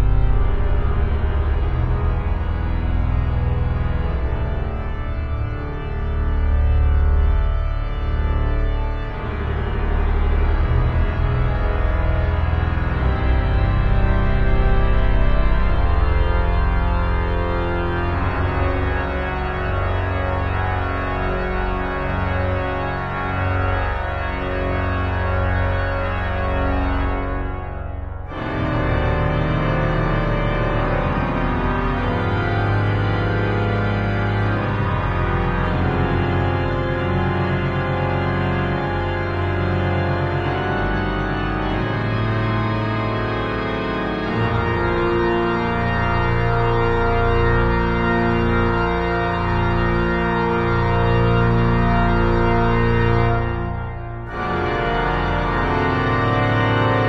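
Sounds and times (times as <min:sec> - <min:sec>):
pipe organ chords: 0:00.0 - 0:57.0.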